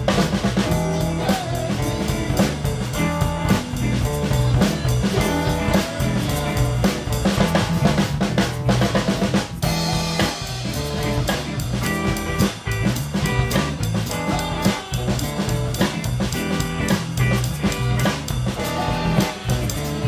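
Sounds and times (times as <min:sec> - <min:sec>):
bass line: 0:00.0 - 0:20.0
drum-kit beat: 0:00.0 - 0:20.0
electric guitar: 0:00.0 - 0:20.0
keyboard: 0:00.0 - 0:20.0.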